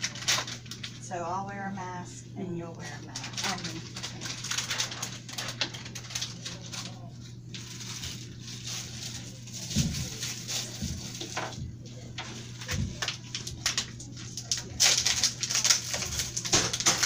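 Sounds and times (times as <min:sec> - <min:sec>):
packaging crinkling and rustling: 0:00.0 - 0:01.0, 0:02.9 - 0:17.0
steady low hum: 0:00.0 - 0:17.0.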